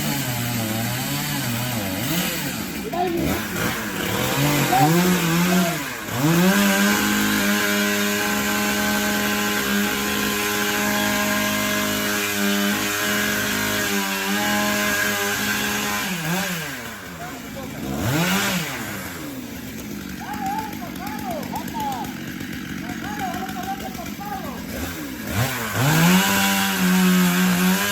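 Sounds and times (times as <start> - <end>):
chainsaw revving: 0.0 - 27.9.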